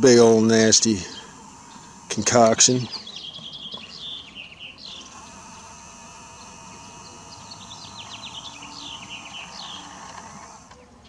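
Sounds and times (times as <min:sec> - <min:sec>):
small birds chirping: 0:00.0 - 0:11.0
steady high-pitched buzz: 0:00.0 - 0:11.0.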